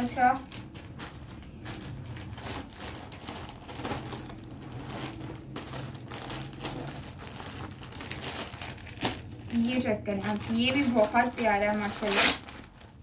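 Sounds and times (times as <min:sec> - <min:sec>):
low steady hum: 0:00.0 - 0:13.0
plastic packaging crinkling: 0:00.0 - 0:13.0.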